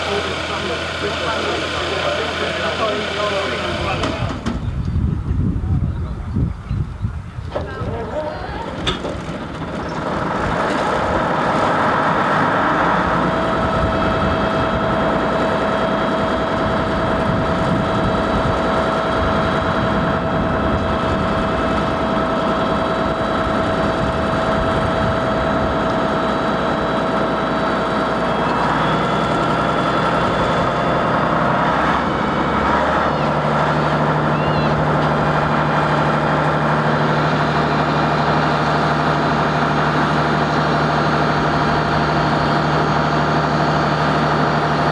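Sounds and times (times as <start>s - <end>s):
jet engines idling with whine: 0.0s - 6.6s, 7.5s - 44.9s.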